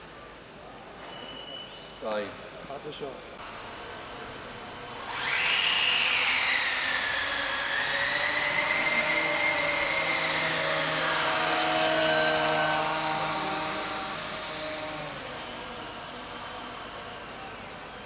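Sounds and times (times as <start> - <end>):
electric ducted fans whining: 3.2 - 18.0.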